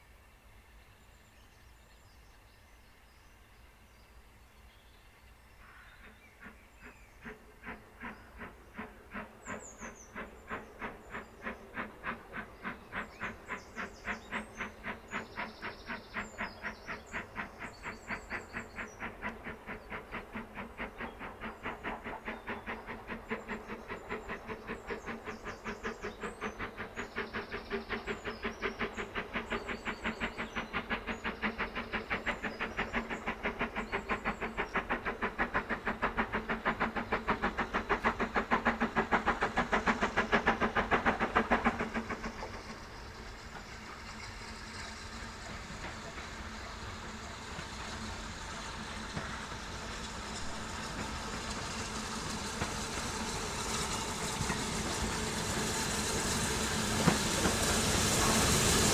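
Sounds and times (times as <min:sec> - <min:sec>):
steam locomotive chuffing: 0:05.5 - 0:58.9.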